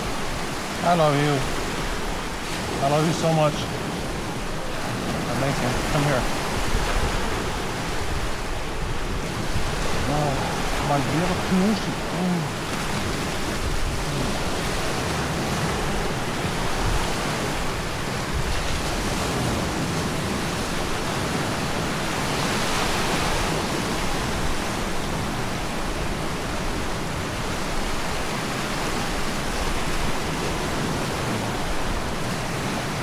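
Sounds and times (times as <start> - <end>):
waves breaking on rocky shore: 0.0 - 33.0
wind rumble on microphone: 1.4 - 33.0.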